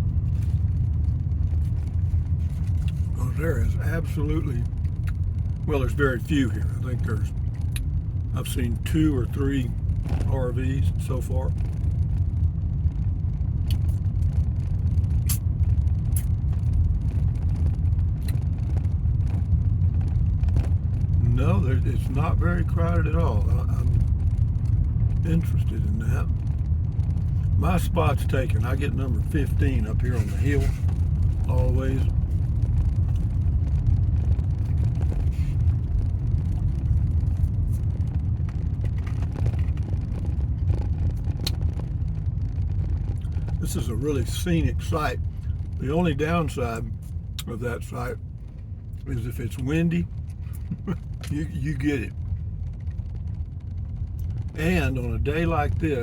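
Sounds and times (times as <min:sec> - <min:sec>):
vehicle rumble from inside cabin: 0:00.0 - 0:56.0.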